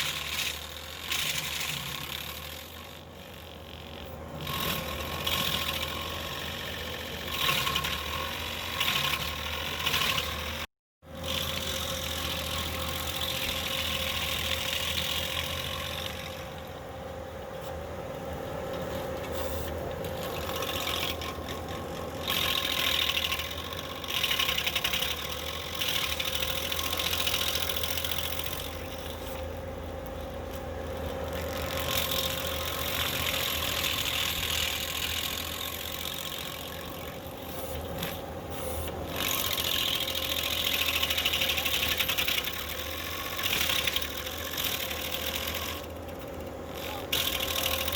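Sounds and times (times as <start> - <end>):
stump grinder grinding: 0.0 - 17.3, 18.4 - 47.9
skid steer engine running: 0.0 - 47.9.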